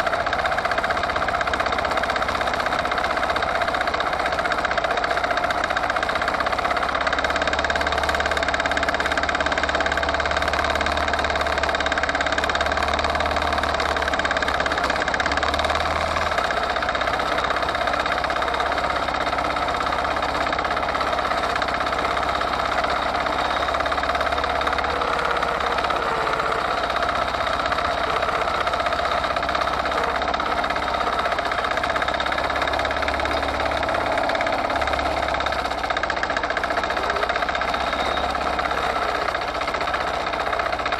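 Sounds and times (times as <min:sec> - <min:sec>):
diesel tractor engine clattering: 0:00.0 - 0:40.9.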